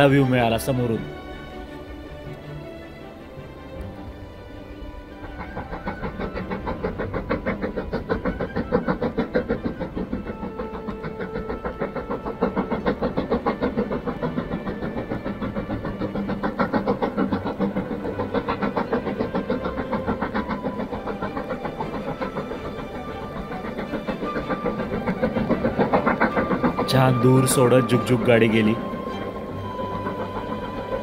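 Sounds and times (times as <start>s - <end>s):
steam locomotive chugging: 0.0s - 31.0s.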